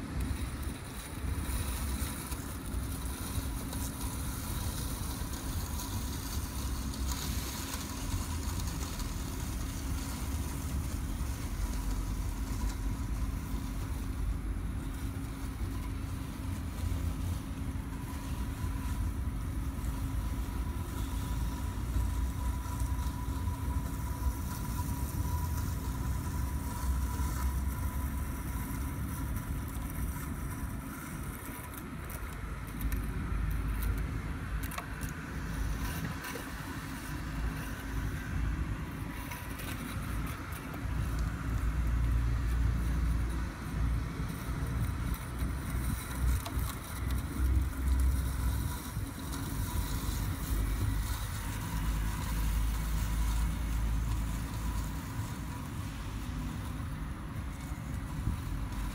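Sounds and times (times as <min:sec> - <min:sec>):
robotic lawn mower running: 0:00.0 - 0:58.9.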